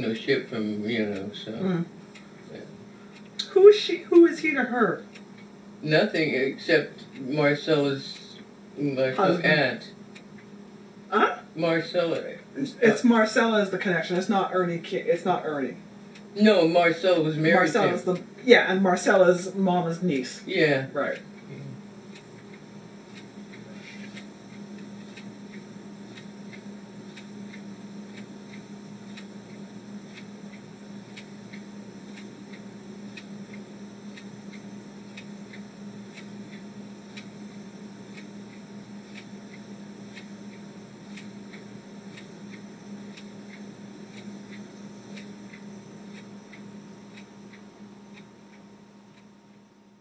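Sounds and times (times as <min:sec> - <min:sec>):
desk clock ticking: 0:00.0 - 0:08.5, 0:11.2 - 0:49.7
low room hum: 0:00.0 - 0:50.0.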